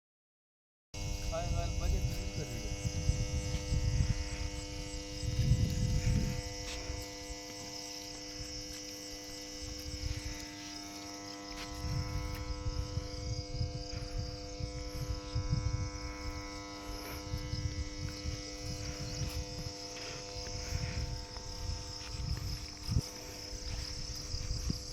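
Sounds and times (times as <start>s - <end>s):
crickets chirring: 1.0s - 24.9s
steady multi-tone hum: 1.0s - 24.9s
wind rumbling on microphone: 1.0s - 24.9s.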